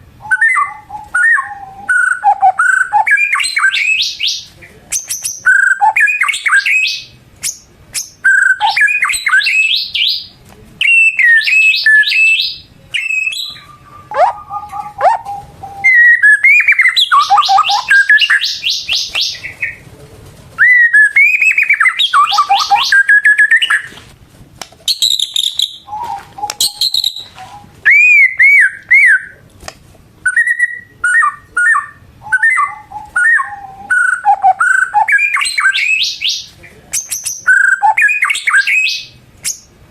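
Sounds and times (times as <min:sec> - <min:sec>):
songbird whistling and trilling: 0:00.2 - 0:19.8, 0:20.6 - 0:23.9, 0:24.9 - 0:29.4, 0:30.2 - 0:39.7.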